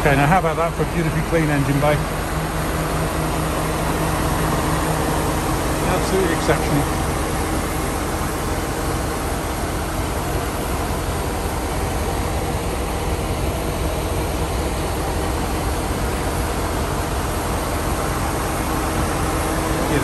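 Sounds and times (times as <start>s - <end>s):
car engine idling: 0.0s - 20.0s
radiator fans whirring: 0.0s - 20.0s.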